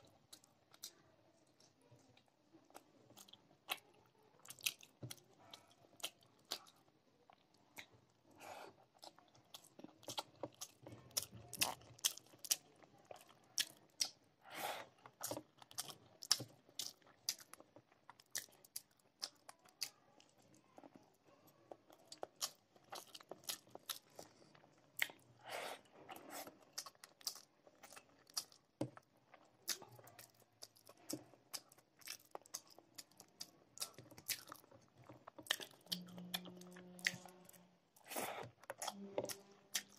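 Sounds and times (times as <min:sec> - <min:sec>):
chewing with mouth smacks: 0:00.0 - 0:39.9.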